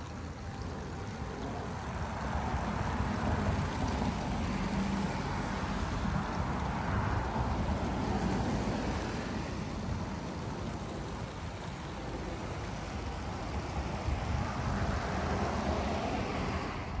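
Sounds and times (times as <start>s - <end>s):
wind buffeting microphone: 0.2s - 17.0s.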